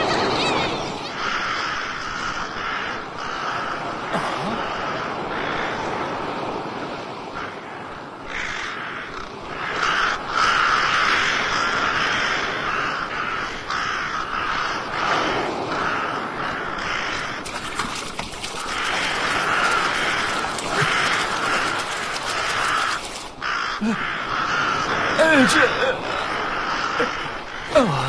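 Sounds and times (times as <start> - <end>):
harsh crow-like bird cries: 1.1 - 6.1, 7.3 - 28.0.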